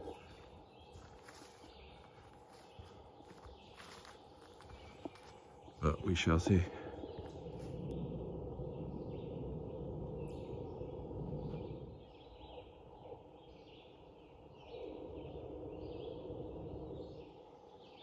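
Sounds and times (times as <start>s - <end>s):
birds singing and chirping: 0.0s - 18.0s.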